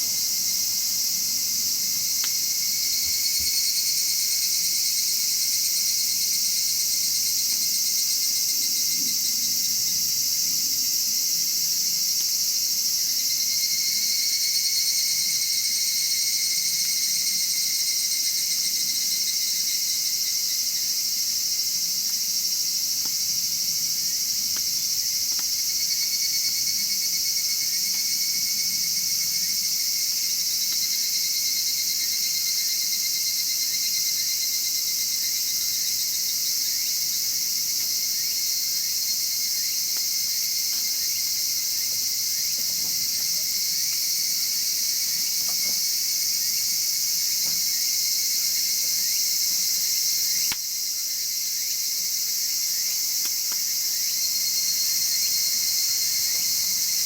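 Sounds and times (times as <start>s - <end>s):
trilling insects chorus: 0.0s - 57.0s.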